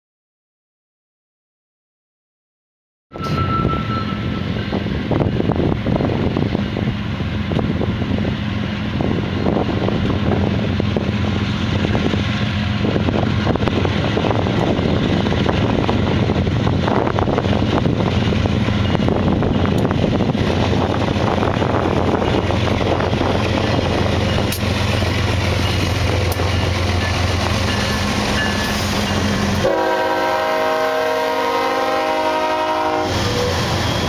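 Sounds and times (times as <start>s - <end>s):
freight train rumbling: 3.1s - 34.0s
locomotive engines droning: 3.2s - 34.0s.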